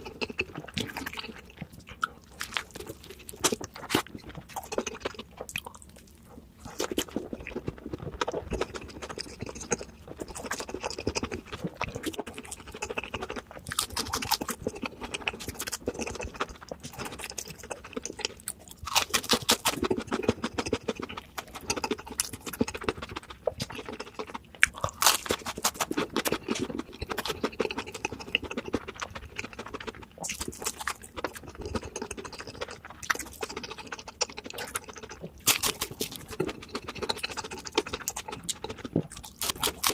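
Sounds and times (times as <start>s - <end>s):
person chewing crispy food: 0.0s - 39.9s.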